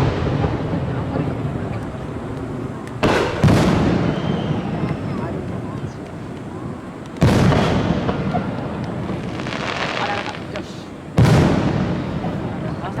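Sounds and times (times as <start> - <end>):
firework shells booming: 0.0 - 13.0.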